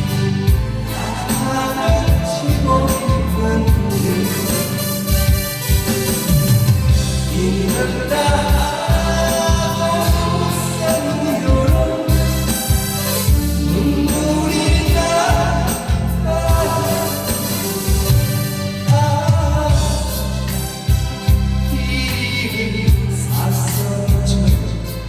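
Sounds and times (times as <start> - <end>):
band with heavy bass: 0.0 - 25.0
person singing: 0.0 - 25.0.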